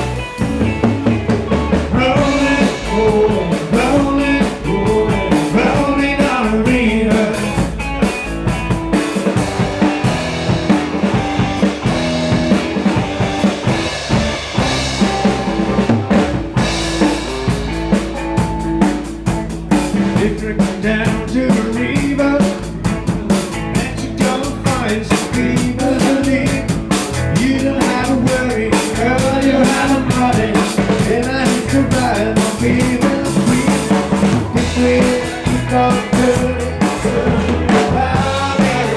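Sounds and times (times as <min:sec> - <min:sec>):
drum kit beat: 0:00.0 - 0:38.9
live band playing: 0:00.0 - 0:38.9.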